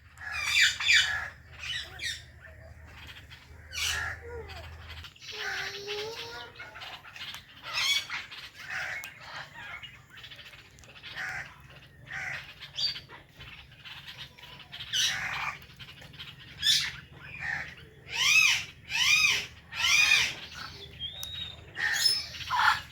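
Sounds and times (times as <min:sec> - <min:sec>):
parrots chirping and squawking: 0:00.0 - 0:22.9.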